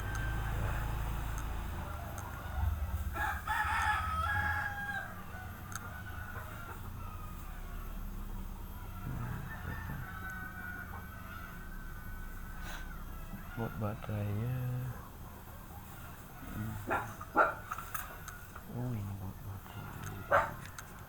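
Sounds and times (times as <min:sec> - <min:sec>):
rooster crowing: 0:00.0 - 0:21.0
steady low hum: 0:00.0 - 0:21.0.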